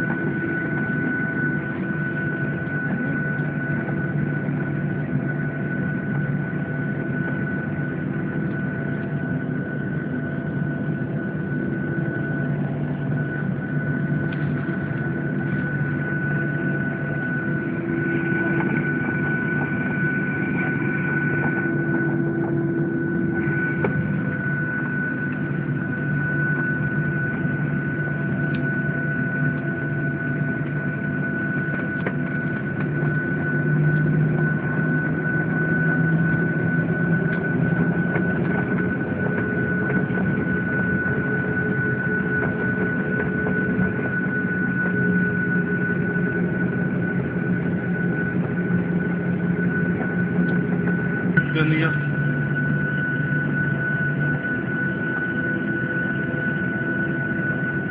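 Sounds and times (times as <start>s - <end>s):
jet engine cabin drone: 0.0s - 57.9s.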